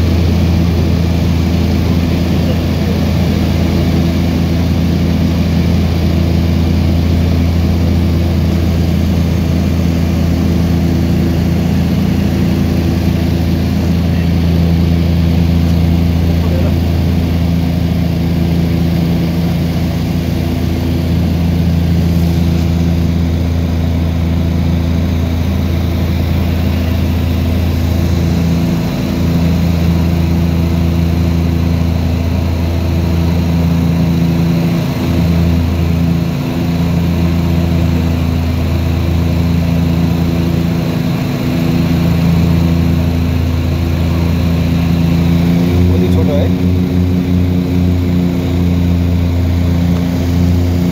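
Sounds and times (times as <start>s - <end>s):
propeller airplane cabin drone: 0.0s - 50.9s.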